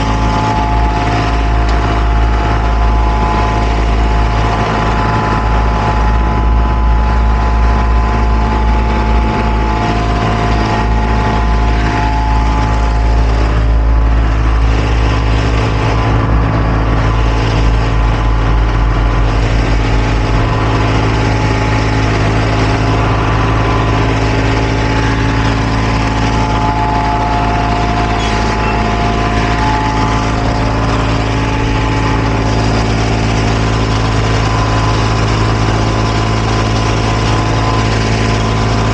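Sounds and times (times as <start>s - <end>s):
constant hum: 0.0s - 38.9s
paving machine engine rumbling: 0.0s - 38.9s.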